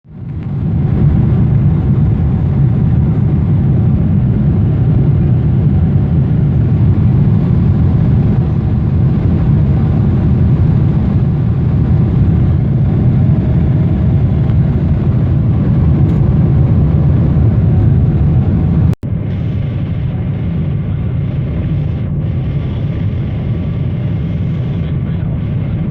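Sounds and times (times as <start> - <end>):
jet engines and airflow rumble: 0.0 - 25.9.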